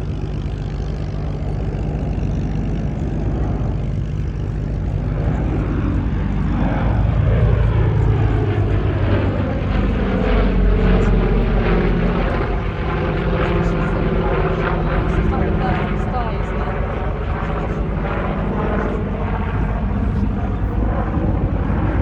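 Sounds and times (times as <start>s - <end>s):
propeller airplane droning past: 0.0s - 22.0s.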